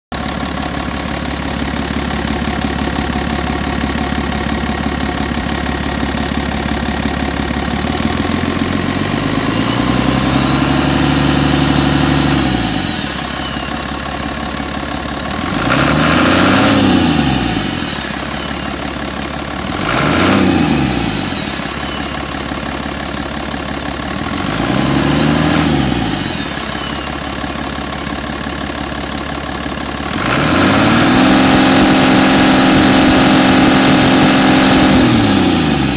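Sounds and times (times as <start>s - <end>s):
diesel engine idling and revving: 0.1s - 35.9s.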